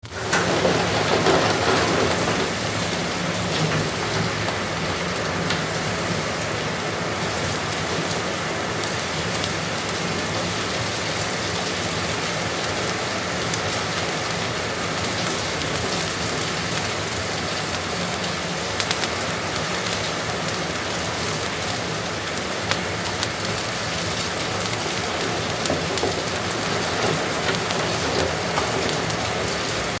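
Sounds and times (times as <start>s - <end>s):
heavy rain on a roof: 0.0s - 30.0s.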